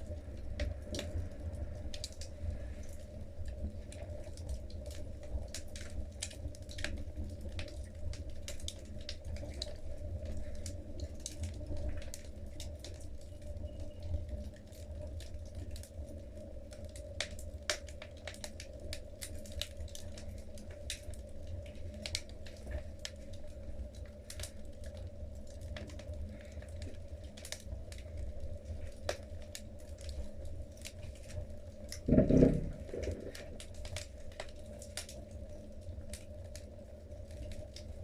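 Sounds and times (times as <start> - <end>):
logs crackling and popping: 0.0 - 38.0
low rumble of flames: 0.0 - 38.0.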